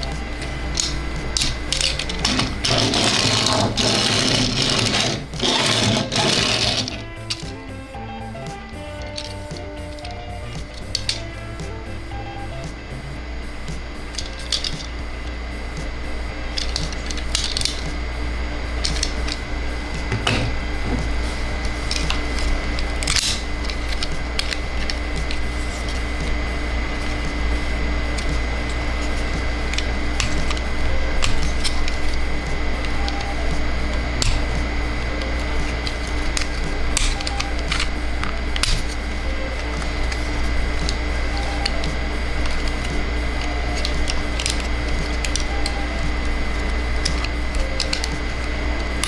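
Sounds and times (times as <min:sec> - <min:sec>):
plastic toy parts clicking: 0:00.0 - 0:07.7, 0:08.4 - 0:11.7, 0:13.7 - 0:15.4, 0:16.4 - 0:18.1, 0:18.7 - 0:20.4, 0:21.6 - 0:27.5, 0:28.1 - 0:49.0
background music: 0:00.0 - 0:49.0
steady low hum: 0:00.0 - 0:49.0.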